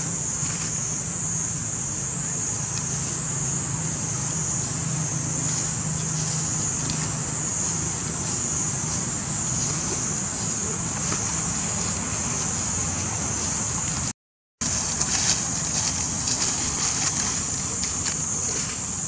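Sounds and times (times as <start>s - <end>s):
high-pitched hiss: 0.0s - 19.0s.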